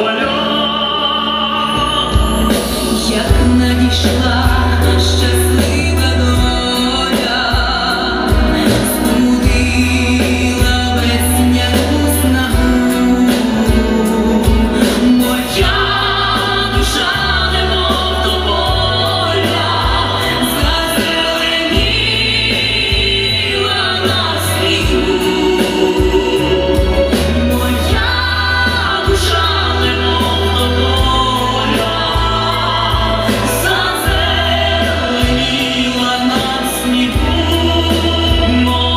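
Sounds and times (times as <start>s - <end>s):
music backing track: 0.0s - 38.9s
person singing with vibrato: 0.0s - 38.9s.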